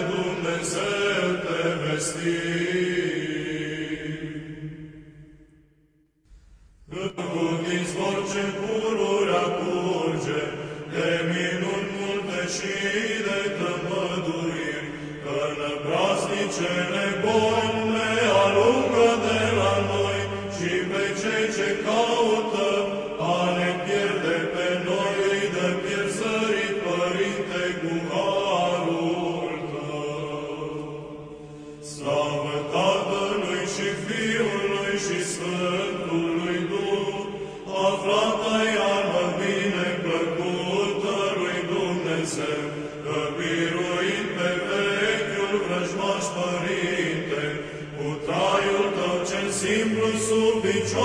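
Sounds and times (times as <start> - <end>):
liturgical chanting: 0.0 - 5.5, 6.9 - 51.0.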